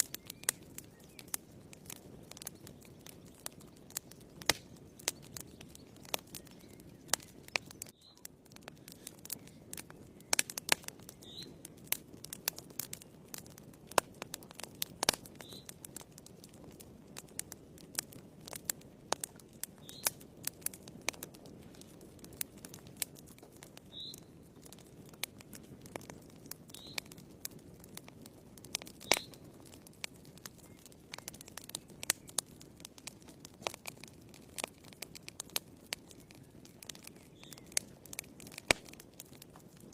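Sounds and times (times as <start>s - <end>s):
crackles and pops of burning logs: 0.0s - 39.9s
low rumble of flame: 0.0s - 39.9s.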